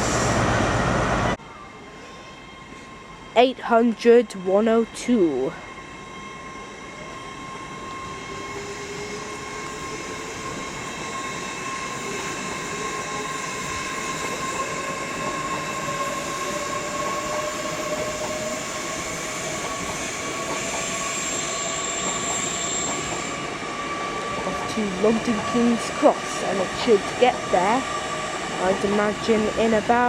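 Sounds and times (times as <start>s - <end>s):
diesel train pulling away: 0.0s - 30.0s.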